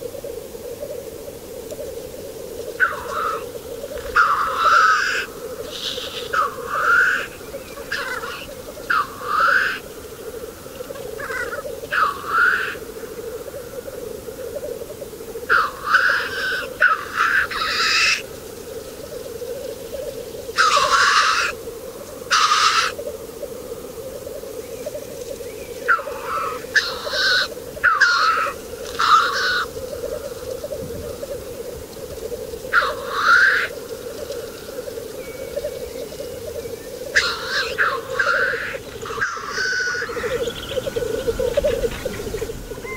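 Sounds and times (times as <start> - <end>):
bubbling bird chorus: 1.8 - 42.9.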